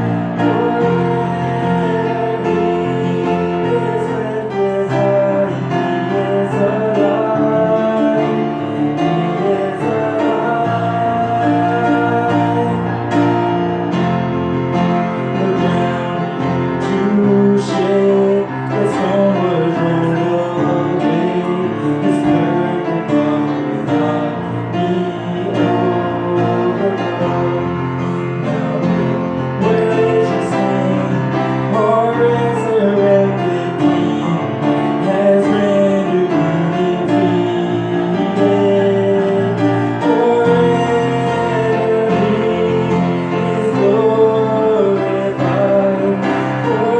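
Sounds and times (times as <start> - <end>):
person singing: 0.0 - 46.9
piano: 0.0 - 46.9.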